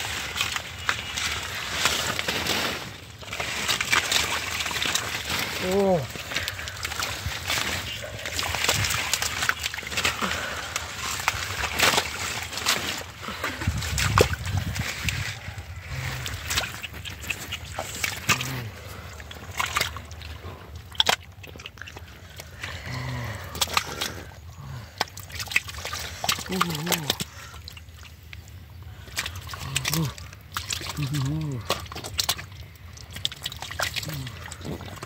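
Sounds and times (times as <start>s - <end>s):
hands digging through wet mud: 0.0s - 35.0s
mud splats: 0.0s - 35.0s.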